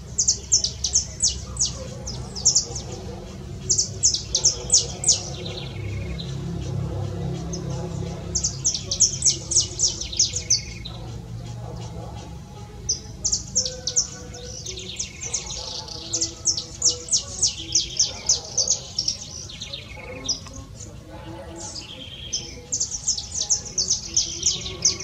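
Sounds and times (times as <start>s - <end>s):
songbird chipping notes: 0.0s - 25.0s.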